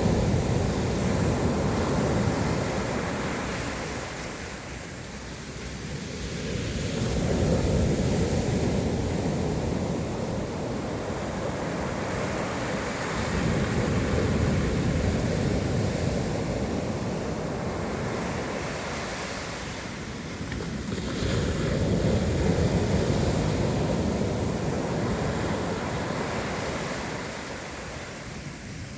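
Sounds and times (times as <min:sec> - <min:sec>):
sea waves breaking on shore: 0:00.0 - 0:28.9
wind on microphone: 0:00.0 - 0:28.9.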